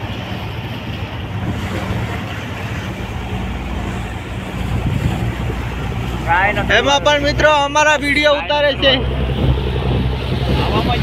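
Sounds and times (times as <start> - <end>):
boat engine drone: 0.0 - 11.0
rushing water: 0.0 - 11.0
wind buffeting microphone: 0.0 - 11.0.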